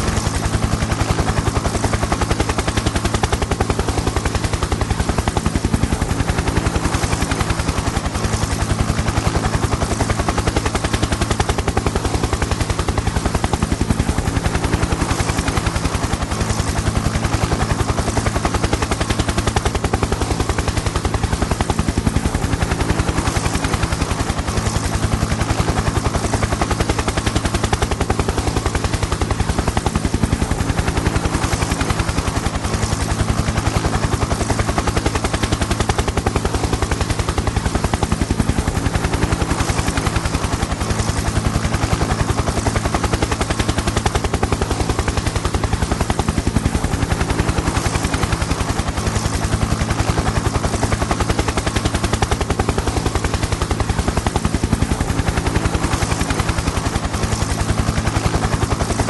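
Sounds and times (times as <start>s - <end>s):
helicopter engine drone: 0.0s - 59.0s
helicopter rotor blades chopping: 0.0s - 59.0s.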